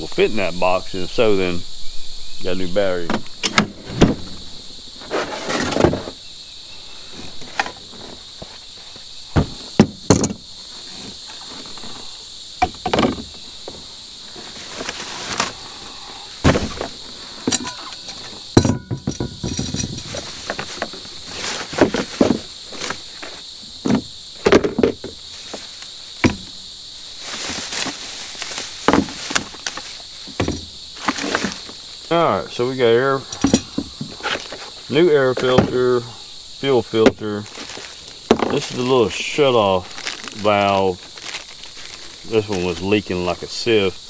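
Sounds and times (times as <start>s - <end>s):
high insect chorus: 0.0s - 44.0s
objects being moved and handled: 2.4s - 6.2s, 7.0s - 26.6s, 27.2s - 43.8s.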